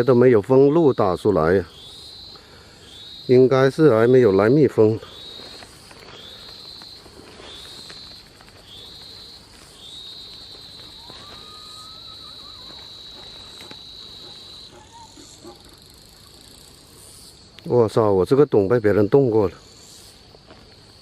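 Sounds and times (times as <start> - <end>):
insect trilling: 0.0 - 21.0.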